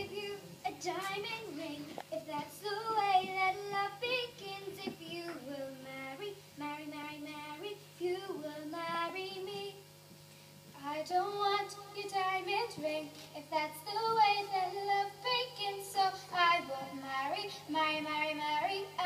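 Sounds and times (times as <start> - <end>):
girl singing folk melody: 0.0 - 9.8, 10.8 - 19.0
steady low hum: 0.0 - 19.0.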